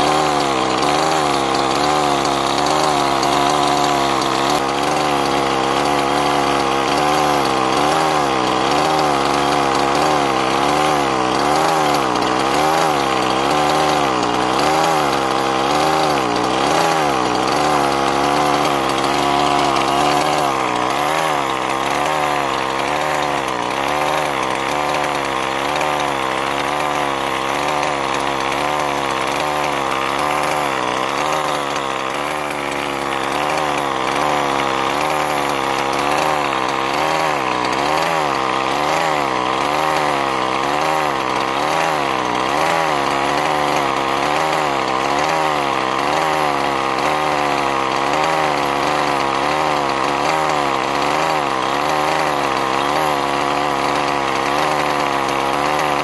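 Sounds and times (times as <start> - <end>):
two-stroke engine idling unevenly: 0.0 - 56.0.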